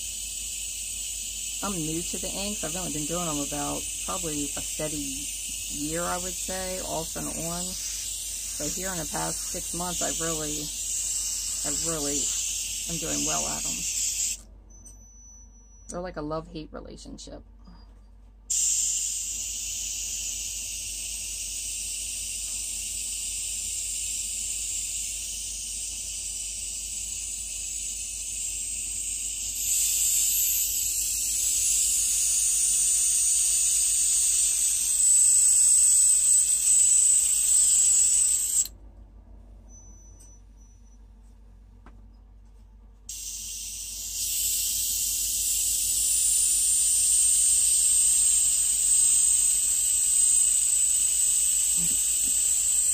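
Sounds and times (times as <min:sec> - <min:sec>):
airbrush hissing: 0:00.0 - 0:14.4, 0:18.5 - 0:38.7, 0:43.1 - 0:52.9.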